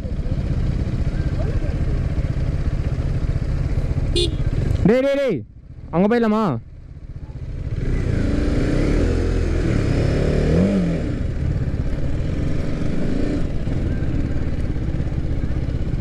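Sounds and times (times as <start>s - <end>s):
motorcycle engine rev: 0.0s - 16.0s
motorcycle engine running: 0.0s - 16.0s.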